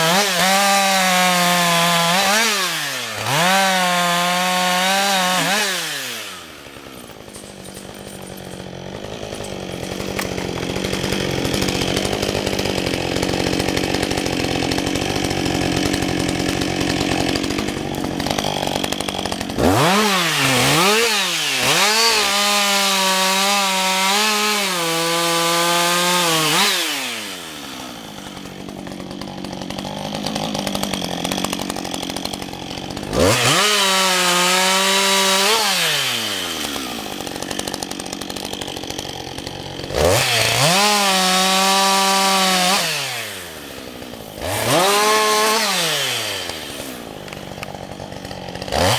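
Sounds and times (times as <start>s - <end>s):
chainsaw idling and revving: 0.0s - 48.9s.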